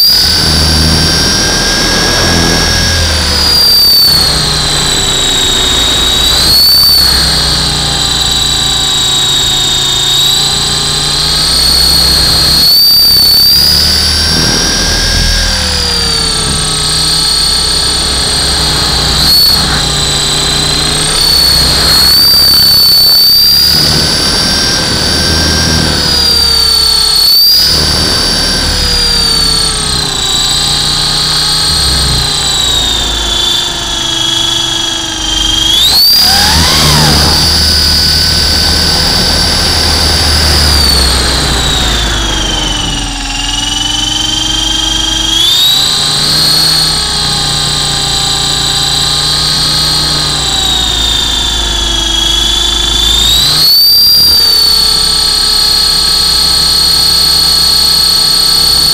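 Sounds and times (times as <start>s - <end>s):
model helicopter motor whine: 0.0s - 58.9s.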